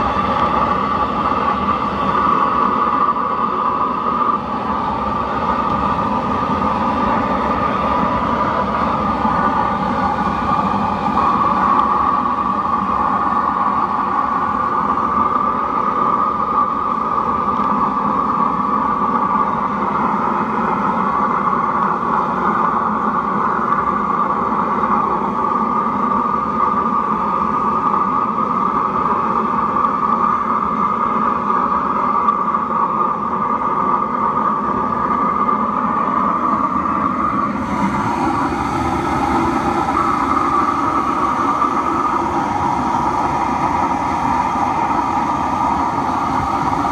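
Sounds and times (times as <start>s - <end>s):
furnace burner roaring: 0.0s - 46.9s.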